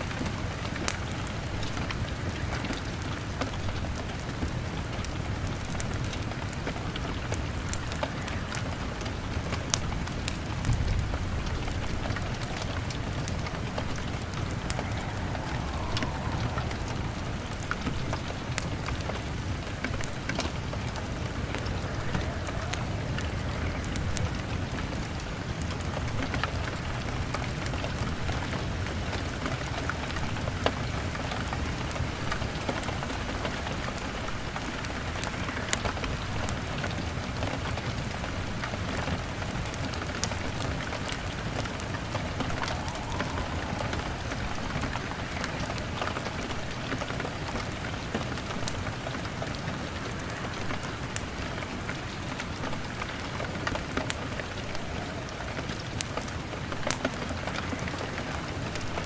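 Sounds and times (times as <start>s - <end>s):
rain pattering on window glass: 0.0s - 59.0s
wood fire crackling: 0.0s - 59.0s.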